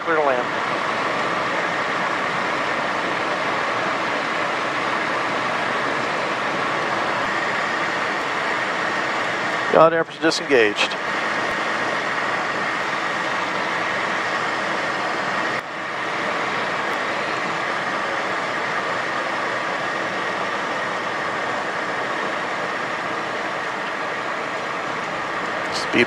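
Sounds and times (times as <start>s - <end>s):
jet engine whine and air rush: 0.0s - 26.0s.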